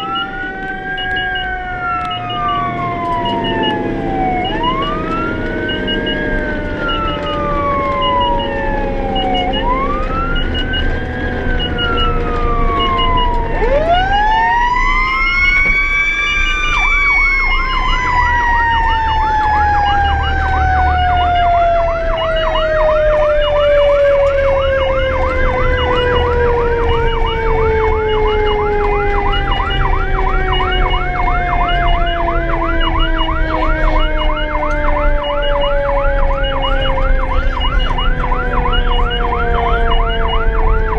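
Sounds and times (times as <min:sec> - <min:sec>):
electronic siren wailing: 0:00.0 - 0:40.9
fast siren yelp: 0:00.0 - 0:40.9
vehicle engine rumbling: 0:00.0 - 0:40.9.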